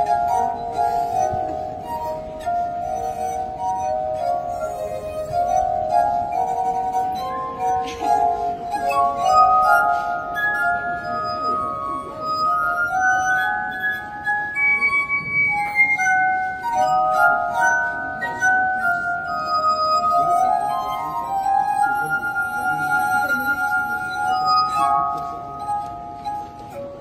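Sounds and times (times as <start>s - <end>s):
glass harp melody: 0.0s - 27.0s.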